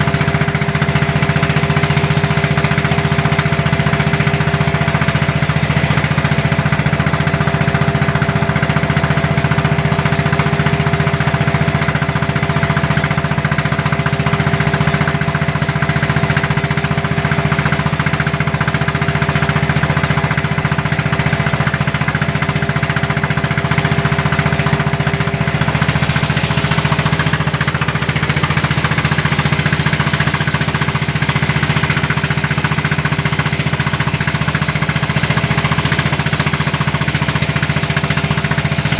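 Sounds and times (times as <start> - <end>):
motorboat engine chugging: 0.0 - 38.9.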